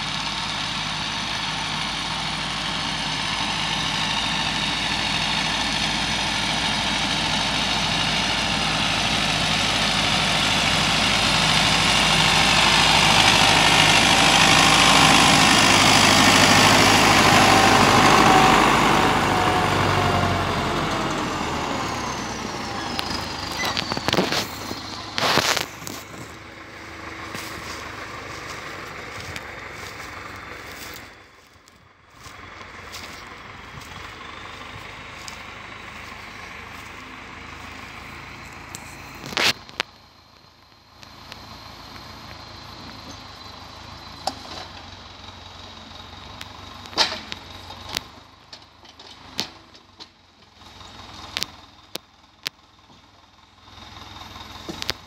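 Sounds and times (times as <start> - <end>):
tractor engine passing: 0.0 - 55.0.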